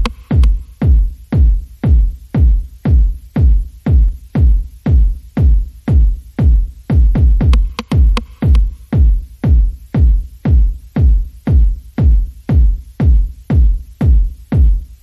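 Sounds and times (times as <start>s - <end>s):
electronic music with kick drum: 0.0s - 15.0s.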